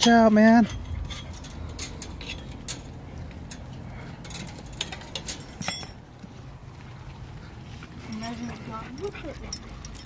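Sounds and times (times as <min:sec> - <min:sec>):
metallic clinks and rattles: 0:00.0 - 0:06.2, 0:07.8 - 0:10.0.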